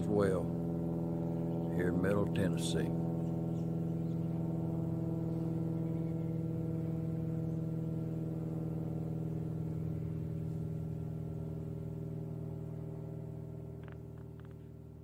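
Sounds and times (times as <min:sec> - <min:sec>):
propeller airplane droning: 0:00.0 - 0:15.0.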